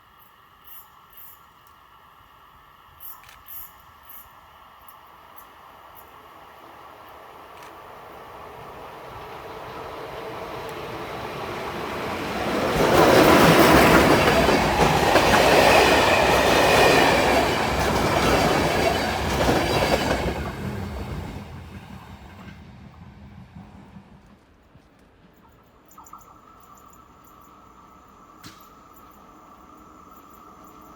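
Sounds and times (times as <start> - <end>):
train rumbling past: 2.4 - 30.9.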